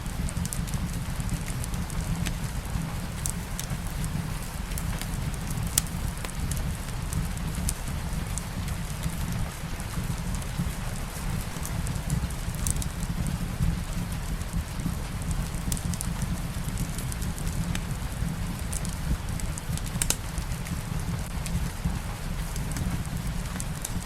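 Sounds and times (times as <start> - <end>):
rain hiss: 0.0 - 24.0
wood fire crackling and popping: 0.0 - 24.0.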